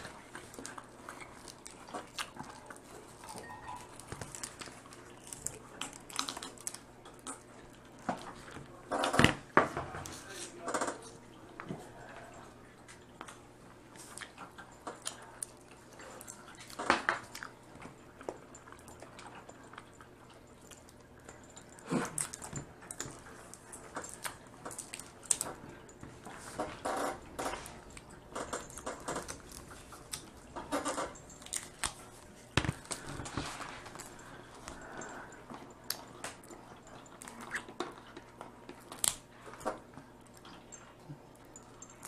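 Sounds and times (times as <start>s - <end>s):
chewing and sucking: 0.0s - 8.6s, 12.1s - 42.0s.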